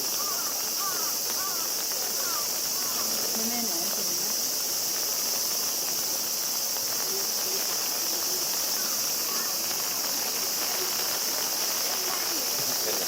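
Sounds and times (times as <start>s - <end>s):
cicadas chorus: 0.0s - 13.0s
faint voices: 0.2s - 13.0s.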